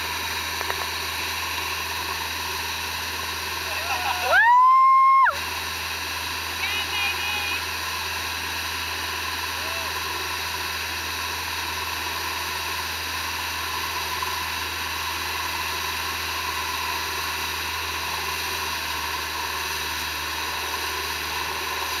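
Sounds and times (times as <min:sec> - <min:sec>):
boat engine running: 0:00.0 - 0:04.3, 0:05.4 - 0:22.0
water rushing from wake: 0:00.0 - 0:22.0.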